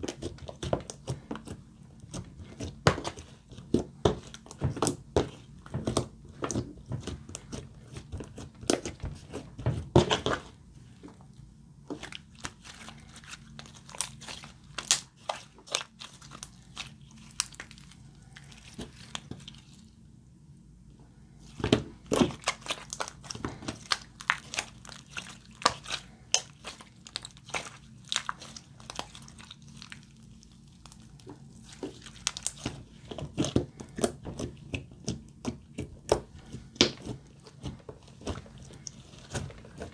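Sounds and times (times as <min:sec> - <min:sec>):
slime squishing wet crackles: 0:00.0 - 0:20.1, 0:21.2 - 0:39.9.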